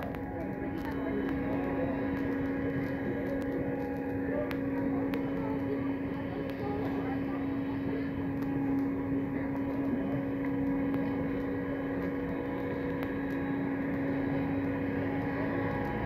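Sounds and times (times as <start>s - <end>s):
trolleybus electrical hum: 0.0s - 16.0s.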